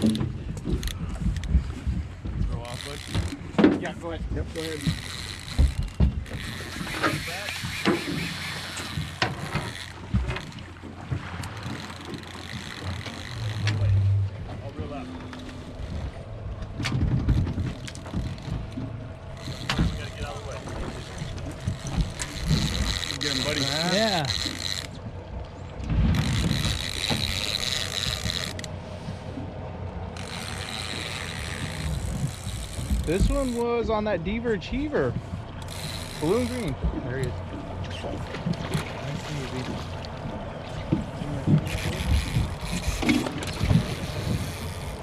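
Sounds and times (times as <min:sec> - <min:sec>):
water against boat hull: 0:00.0 - 0:45.0
wind buffeting microphone: 0:00.0 - 0:45.0.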